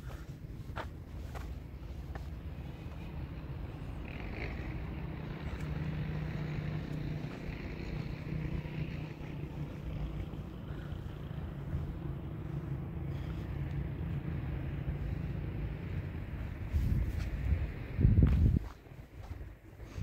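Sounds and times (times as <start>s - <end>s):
distant engine humming: 0.0s - 20.0s.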